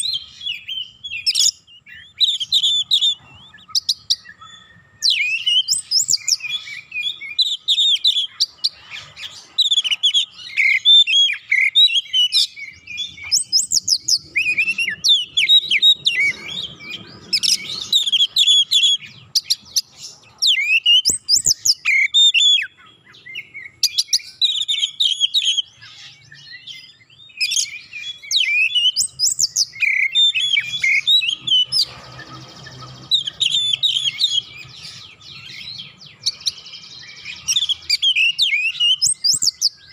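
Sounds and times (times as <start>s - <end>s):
songbird singing whistled notes: 0.0s - 39.9s.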